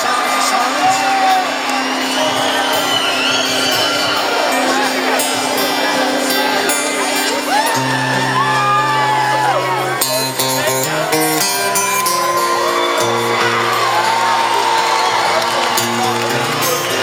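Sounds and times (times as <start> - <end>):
crowd whooping and shouting: 0.0 - 17.0
live concert music: 0.0 - 17.0.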